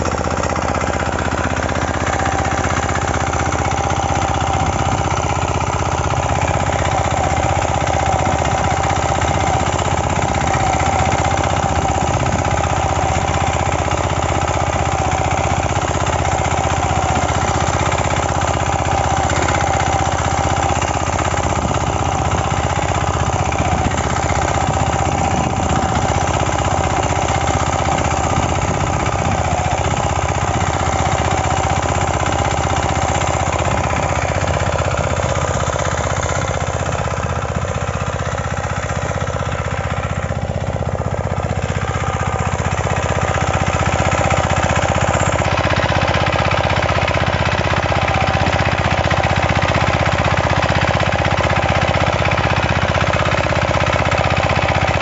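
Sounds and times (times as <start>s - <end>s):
diesel power weeder running: 0.0s - 55.0s.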